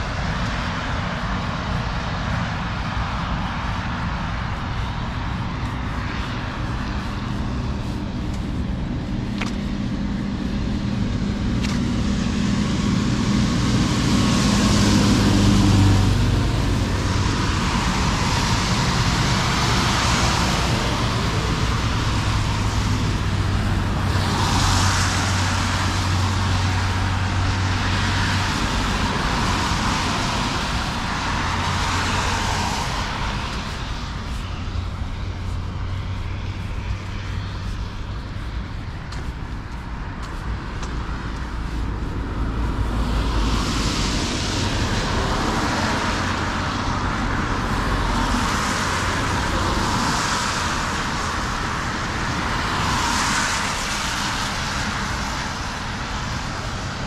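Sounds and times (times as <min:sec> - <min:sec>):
cars passing: 0:00.0 - 0:57.0
low engine hum: 0:00.0 - 0:57.0.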